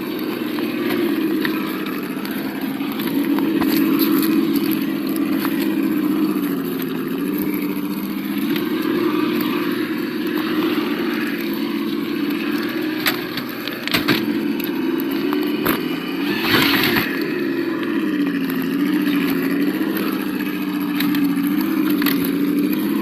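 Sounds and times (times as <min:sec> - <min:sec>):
simulated engine at low revs: 0:00.0 - 0:23.0.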